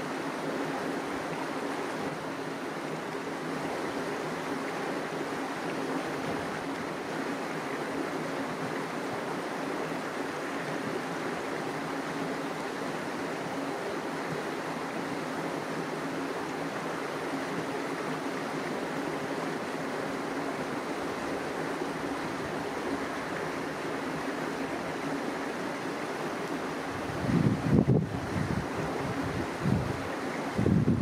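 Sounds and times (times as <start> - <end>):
rushing outdoor ambient noise: 0.0 - 31.0.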